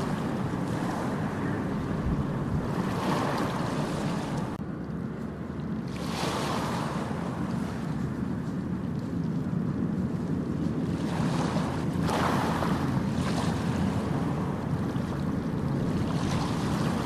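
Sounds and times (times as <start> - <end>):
ocean waves on beach: 0.0 - 17.0
wind rumbling on microphone: 0.0 - 17.0.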